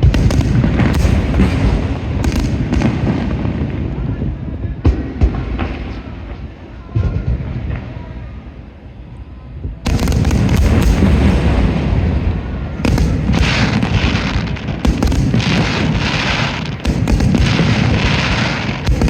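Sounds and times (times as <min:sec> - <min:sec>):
fireworks crackling: 0:00.0 - 0:08.8, 0:09.7 - 0:19.0
fireworks bursts and booms: 0:00.0 - 0:19.0.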